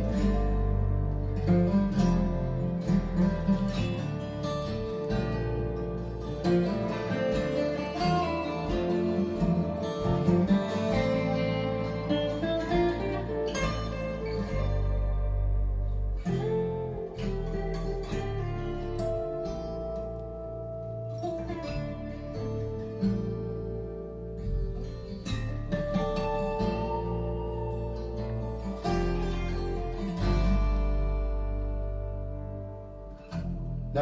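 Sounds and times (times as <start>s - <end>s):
acoustic guitar picking and strumming: 0.0s - 34.0s
steady bass line: 0.0s - 34.0s.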